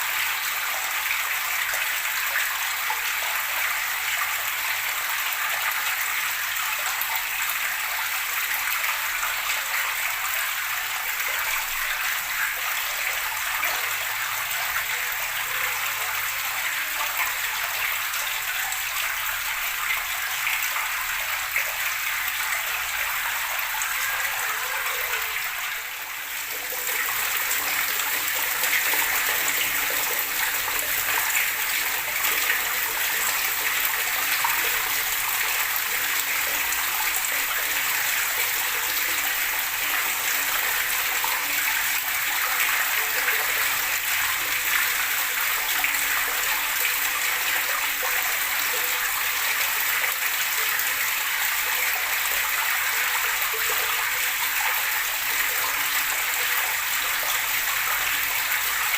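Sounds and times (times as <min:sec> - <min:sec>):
running water gurgling: 0:00.0 - 0:58.9.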